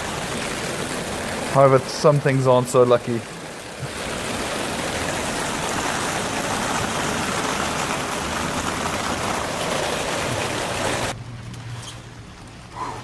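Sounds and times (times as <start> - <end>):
torrential rain pouring: 0.0 - 13.0.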